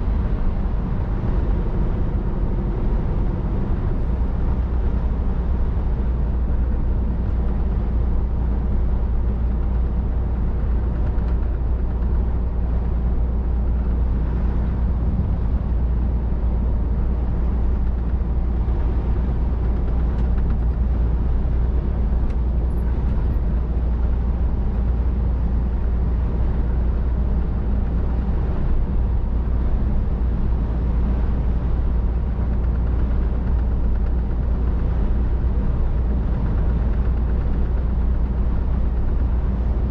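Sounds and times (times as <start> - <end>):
lorry engine and road drone: 0.0 - 39.9.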